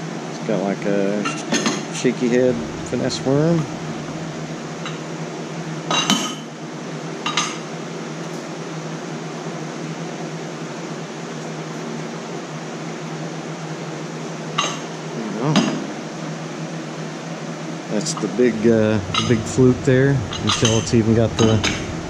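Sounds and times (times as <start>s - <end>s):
fan hum: 0.0s - 22.0s.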